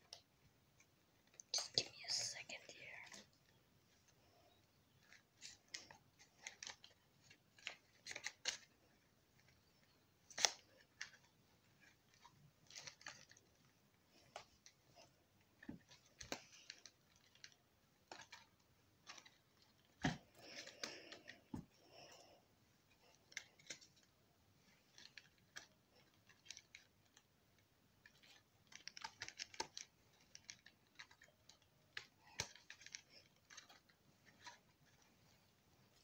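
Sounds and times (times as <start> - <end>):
handling clicks and crinkles: 0.0 - 36.0.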